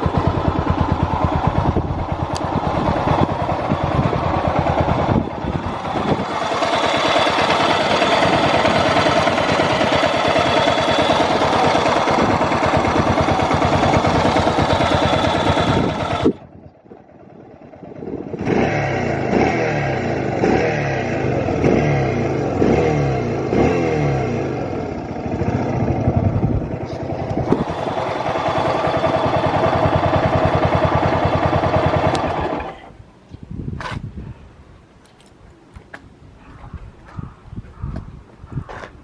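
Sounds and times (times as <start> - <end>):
motorcycle engine running and idling: 0.0 - 33.0.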